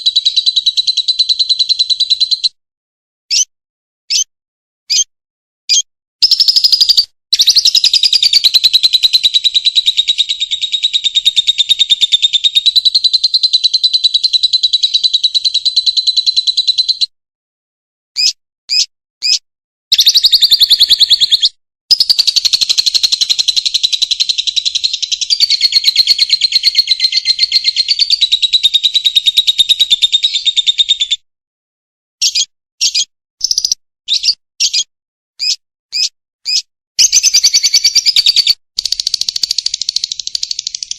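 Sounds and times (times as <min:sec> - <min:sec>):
lovebird high-pitched trill: 0:00.0 - 0:02.6, 0:05.7 - 0:17.1, 0:19.9 - 0:31.2, 0:32.2 - 0:40.9
bird short chirps: 0:03.3 - 0:03.5, 0:04.1 - 0:04.3, 0:05.7 - 0:17.1, 0:18.2 - 0:31.2, 0:32.2 - 0:40.9.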